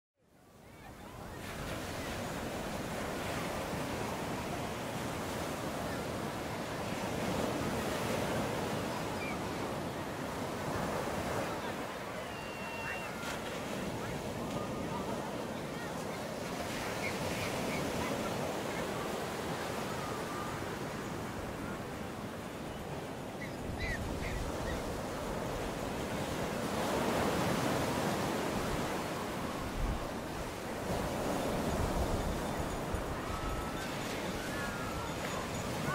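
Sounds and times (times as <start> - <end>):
waves washing on shore: 0.6 - 35.9.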